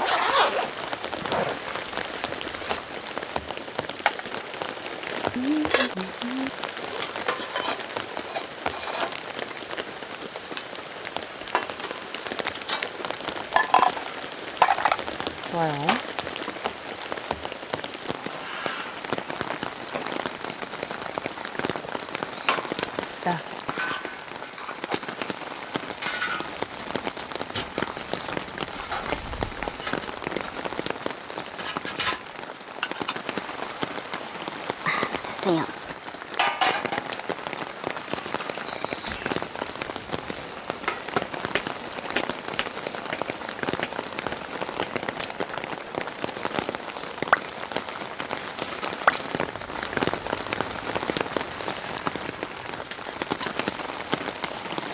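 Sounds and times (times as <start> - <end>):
heavy rain falling: 0.0 - 54.9
sharp raindrop hits: 0.0 - 54.9.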